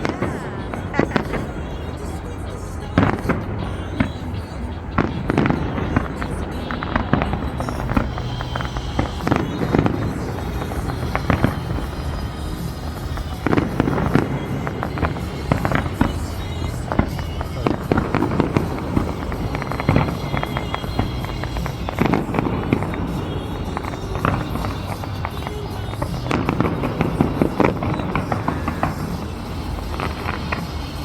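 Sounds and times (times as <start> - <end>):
fireworks bangs and crackles: 0.0 - 31.0
music: 0.0 - 31.0.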